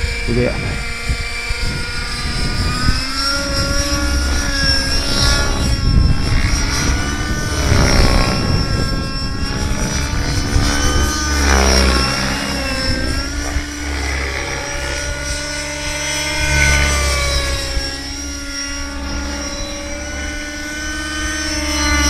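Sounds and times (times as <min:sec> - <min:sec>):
model helicopter engine and rotor: 0:00.0 - 0:22.0.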